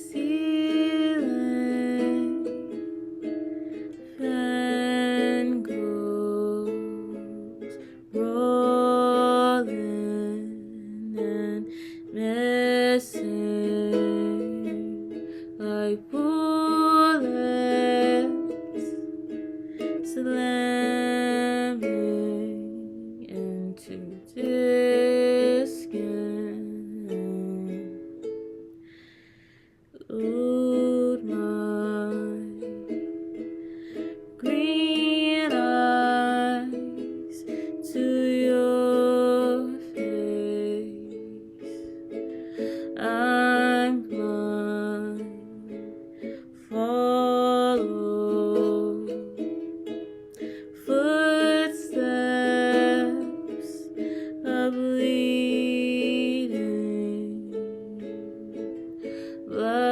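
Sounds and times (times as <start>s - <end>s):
person singing: 0.0s - 28.4s, 30.0s - 59.9s
ukulele playing: 0.0s - 29.2s, 30.0s - 59.9s.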